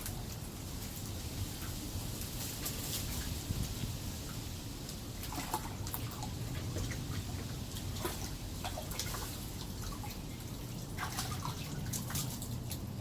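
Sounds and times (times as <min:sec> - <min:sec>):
water dripping and splashing: 0:00.0 - 0:13.0
water feature trickling: 0:00.0 - 0:13.0.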